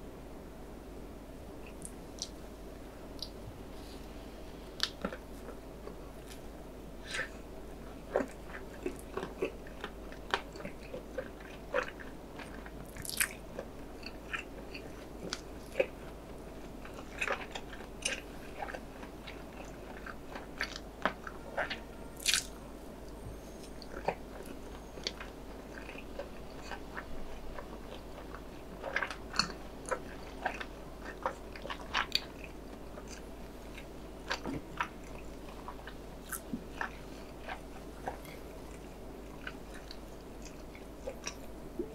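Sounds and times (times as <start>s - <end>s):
chewing and biting food: 4.8s - 41.9s.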